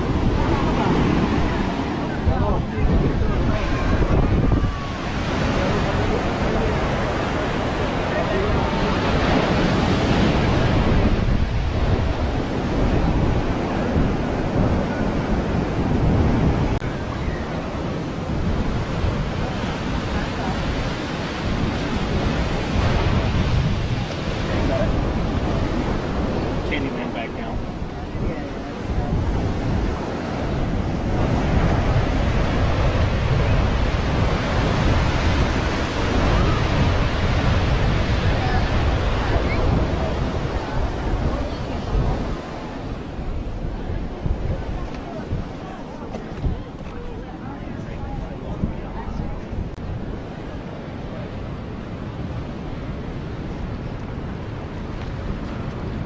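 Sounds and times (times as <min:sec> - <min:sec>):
ocean surf washing onto beach: 0:00.0 - 0:56.0
wind buffeting microphone: 0:00.0 - 0:56.0.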